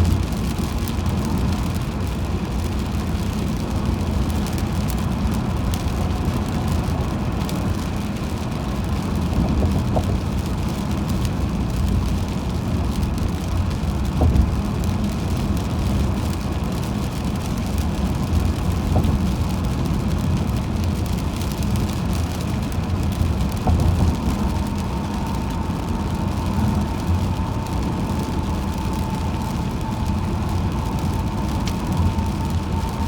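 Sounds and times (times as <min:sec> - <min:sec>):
car driving on highway: 0:00.0 - 0:33.0.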